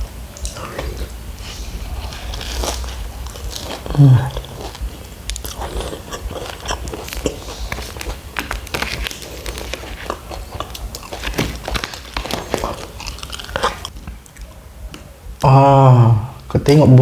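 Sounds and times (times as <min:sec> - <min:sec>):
person chewing crunchy pastry: 0:00.0 - 0:15.1.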